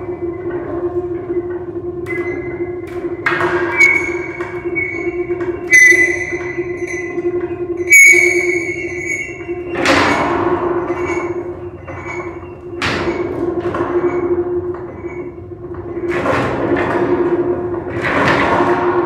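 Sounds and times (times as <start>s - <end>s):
steady electronic drone tone: 0.0s - 19.0s.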